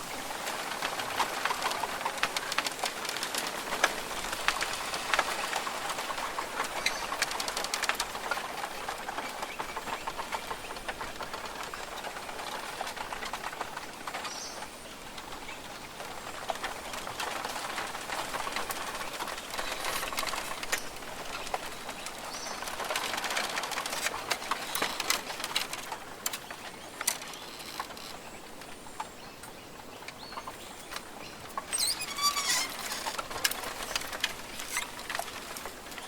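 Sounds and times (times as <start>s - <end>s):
patter of clicks and rustles: 0.0s - 36.0s
bird calls: 4.8s - 36.0s.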